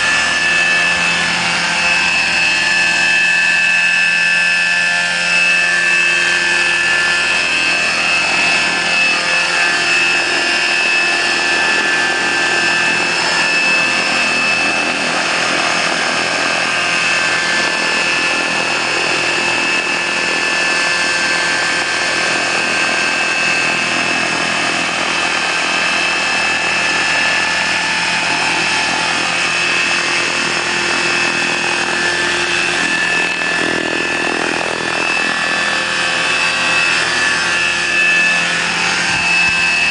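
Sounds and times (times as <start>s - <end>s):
high-pitched electric motor whine: 0.0s - 39.9s
rotor blades rushing: 0.0s - 39.9s.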